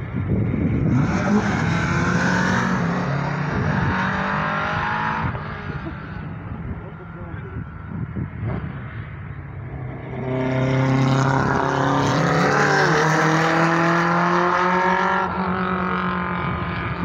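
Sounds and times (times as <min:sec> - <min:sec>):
racing car engines accelerating: 0:00.6 - 0:17.0.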